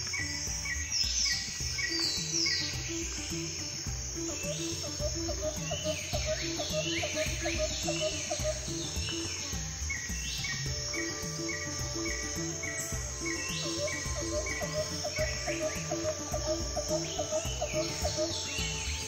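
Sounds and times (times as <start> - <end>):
insects chirping in pulses: 0.0 - 19.0
soft background music: 0.0 - 19.0.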